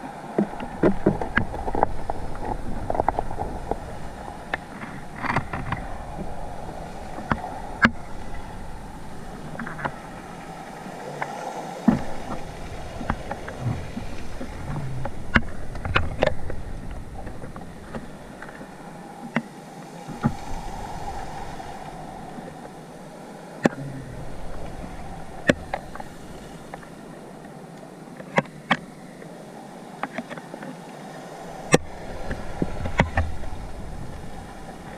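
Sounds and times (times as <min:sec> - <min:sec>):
muffled underwater hiss and rumble: 0:00.0 - 0:34.9.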